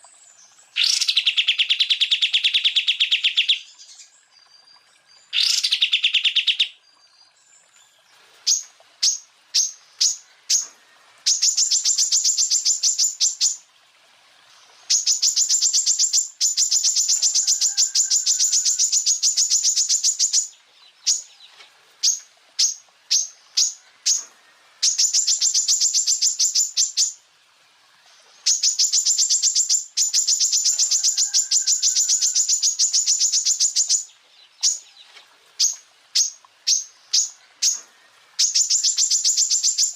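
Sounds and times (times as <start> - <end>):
bird singing rapid volleys: 0.0 - 13.7, 14.3 - 27.2, 28.0 - 39.9.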